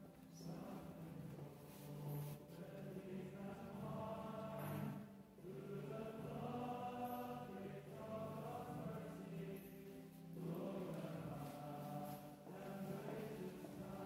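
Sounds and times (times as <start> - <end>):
group singing a hymn: 0.4 - 14.0.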